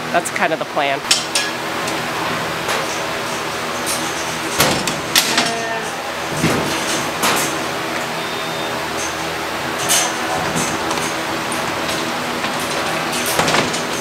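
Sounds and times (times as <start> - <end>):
steady hum: 0.0 - 14.0
metal gates clanking and sliding: 1.1 - 14.0.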